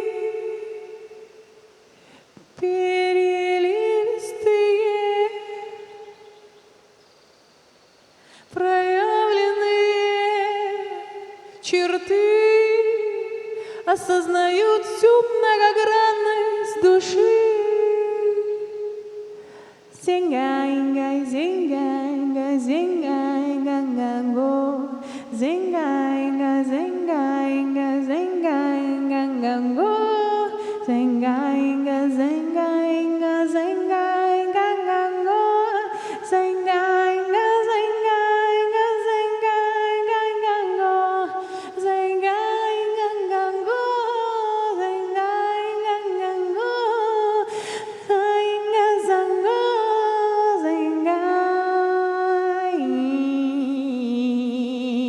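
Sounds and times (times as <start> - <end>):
person singing without words: 0.0 - 1.6, 2.6 - 6.4, 8.5 - 55.0.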